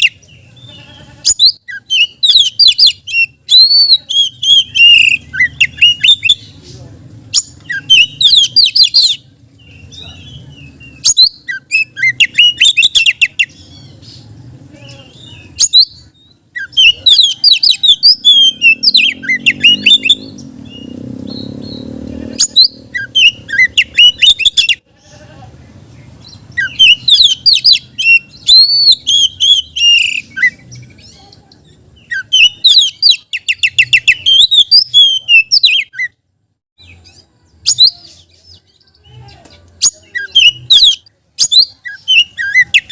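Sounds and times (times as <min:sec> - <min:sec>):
bird singing whistles and trills: 0:01.3 - 0:06.5, 0:07.4 - 0:14.3, 0:15.2 - 0:24.8, 0:26.2 - 0:31.2, 0:32.0 - 0:36.2, 0:36.8 - 0:39.1, 0:39.8 - 0:42.9.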